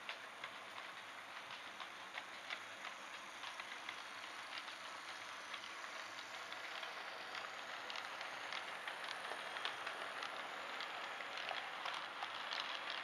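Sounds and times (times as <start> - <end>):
model train wheels hissing on rail: 0.0 - 13.0
small irregular track clicks: 0.0 - 13.0.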